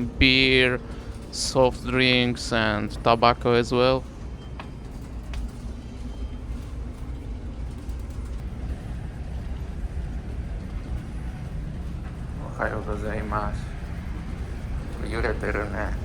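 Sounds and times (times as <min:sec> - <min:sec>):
ship engines droning: 0:00.0 - 0:16.0.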